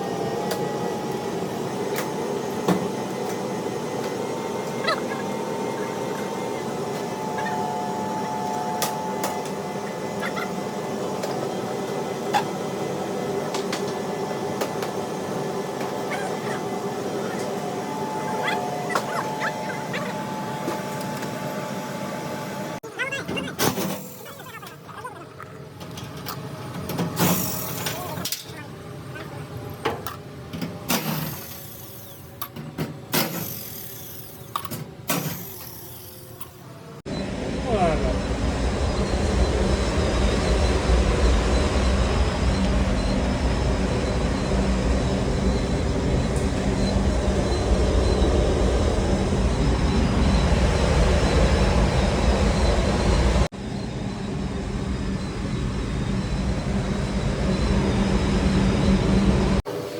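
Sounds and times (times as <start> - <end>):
air handler blower whirring: 0.0 - 22.8, 25.8 - 59.9.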